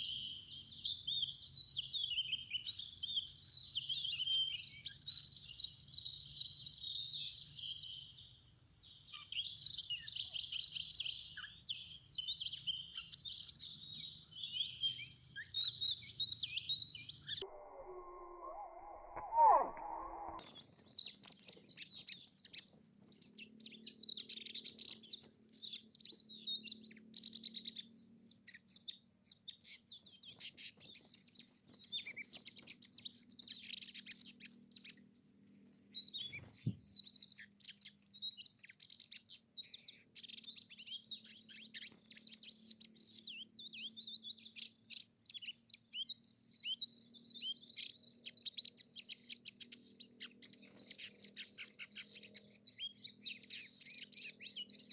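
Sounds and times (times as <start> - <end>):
small birds chirping: 0.0 - 18.6, 19.2 - 54.9.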